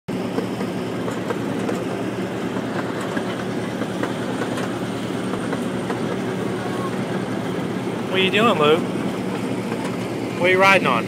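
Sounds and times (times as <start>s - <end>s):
wheels rumbling on track: 0.1s - 11.0s.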